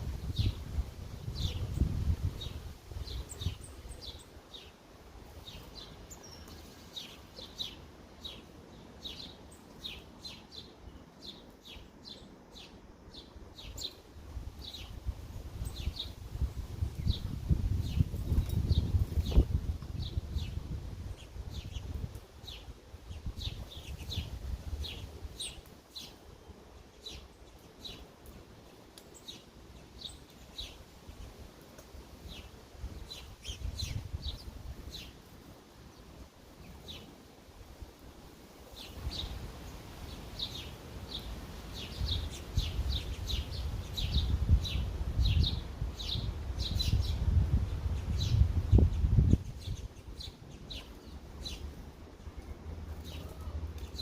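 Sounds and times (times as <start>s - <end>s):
sparrows chirping: 0.1s - 31.4s, 32.2s - 37.2s, 38.7s - 54.0s.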